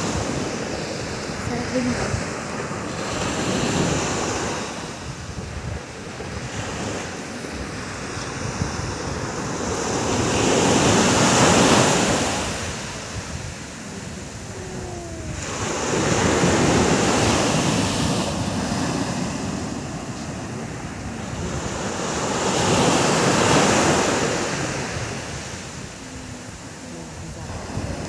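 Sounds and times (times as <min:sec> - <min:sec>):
sea waves breaking on beach: 0:00.0 - 0:28.0.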